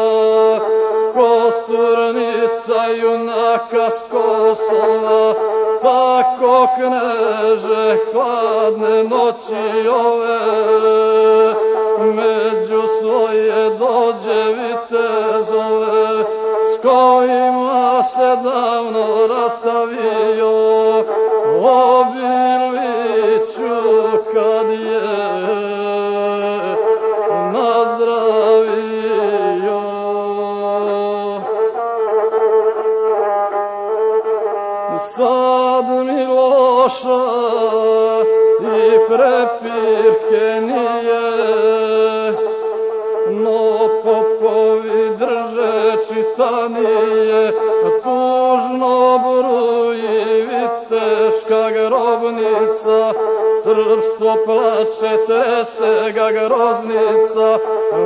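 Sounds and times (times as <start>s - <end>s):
bowed fiddle melody: 0.0s - 58.0s.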